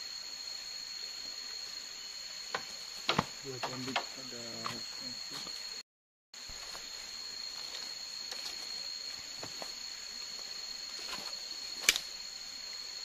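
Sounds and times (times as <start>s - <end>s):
forest insects droning: 0.0s - 5.8s, 6.4s - 13.0s.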